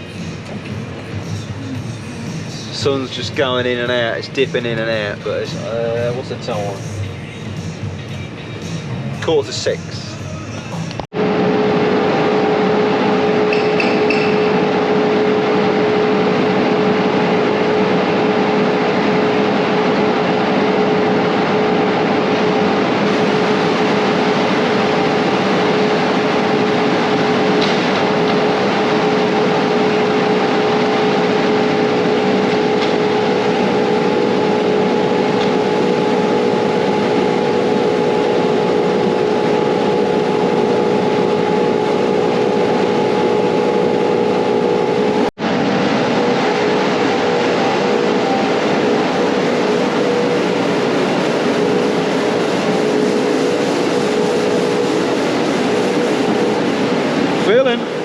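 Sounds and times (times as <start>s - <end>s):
steady whine: 0.0s - 58.0s
tractor engine drone: 0.0s - 58.0s.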